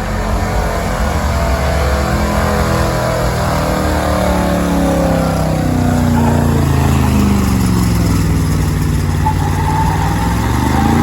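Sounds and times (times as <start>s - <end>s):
truck engine running hard: 0.0s - 11.0s.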